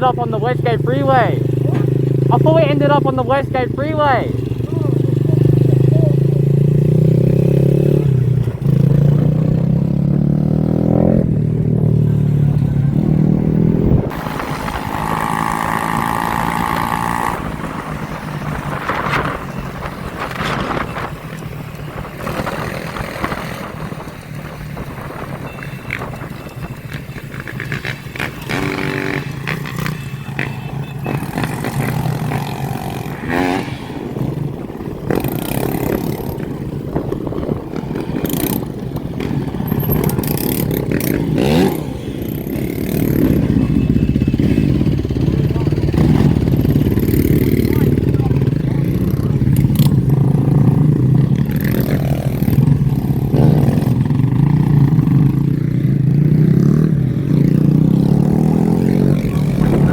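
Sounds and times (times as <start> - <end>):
motorcycle accelerating through gears: 0.0 - 59.9
motorcycle engines running: 0.0 - 59.9
road noise: 0.0 - 59.9.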